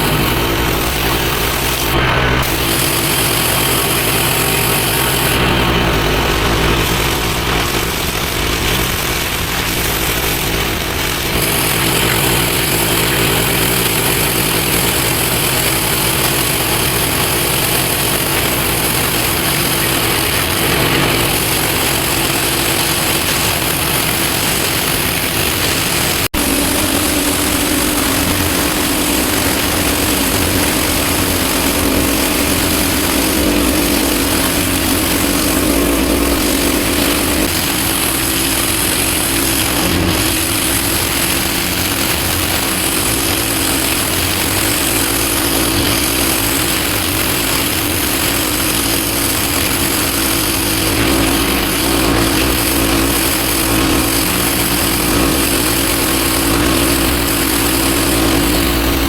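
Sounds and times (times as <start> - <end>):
pressure washer engine running: 0.0 - 59.0
water jet hissing on paving: 0.0 - 59.0.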